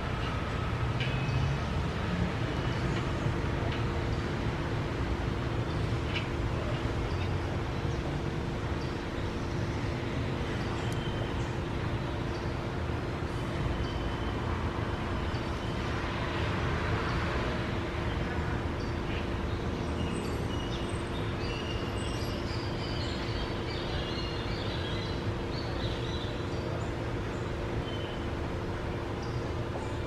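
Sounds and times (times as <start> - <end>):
constant hum: 0.0 - 30.0.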